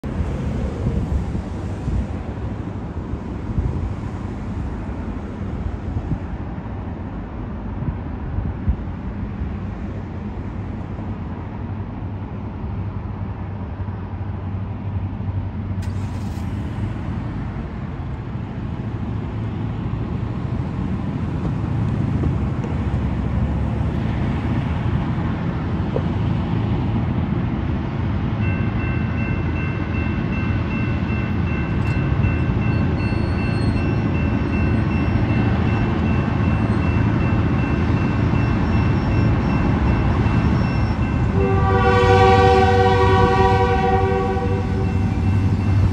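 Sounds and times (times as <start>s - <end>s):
diesel locomotives rumbling: 0.0s - 45.9s.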